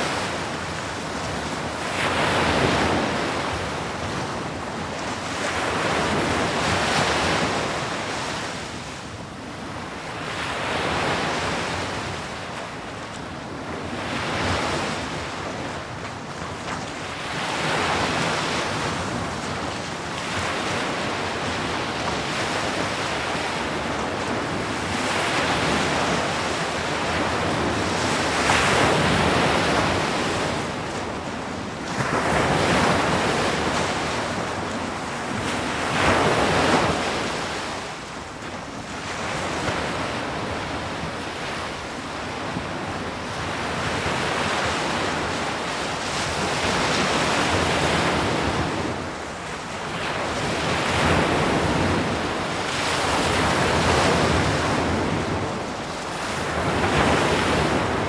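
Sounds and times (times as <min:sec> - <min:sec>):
sea waves breaking on shore: 0:00.0 - 0:58.0
wind: 0:00.0 - 0:58.0.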